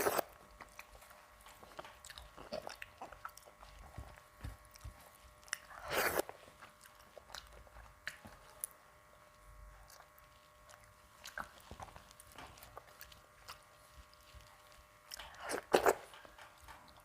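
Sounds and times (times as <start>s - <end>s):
person chewing: 0.0s - 8.8s, 9.7s - 17.0s.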